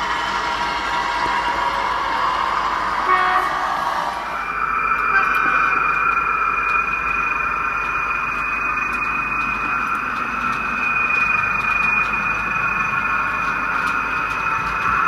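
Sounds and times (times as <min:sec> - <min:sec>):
model diesel locomotive engine sound: 0:00.0 - 0:15.0.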